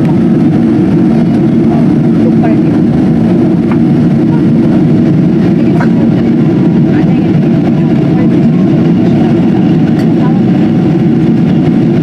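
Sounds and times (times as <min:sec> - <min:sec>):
airliner cabin engine drone: 0:00.0 - 0:12.0
faint voices: 0:01.4 - 0:11.5.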